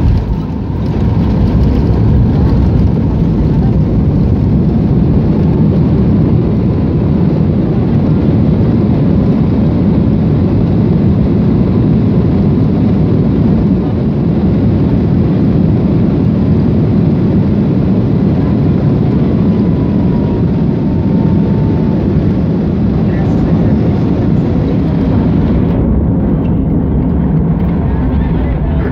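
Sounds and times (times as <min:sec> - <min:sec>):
aircraft engines rumbling: 0:00.0 - 0:28.9.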